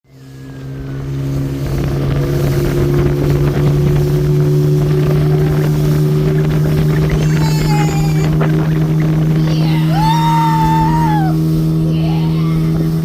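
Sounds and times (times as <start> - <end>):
motor humming: 0.2 - 13.0.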